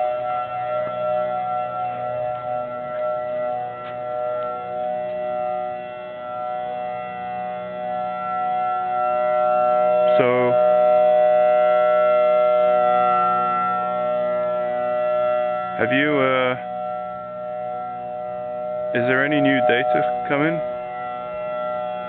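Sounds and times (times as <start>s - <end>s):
warning siren steady chord: 0.0s - 22.0s.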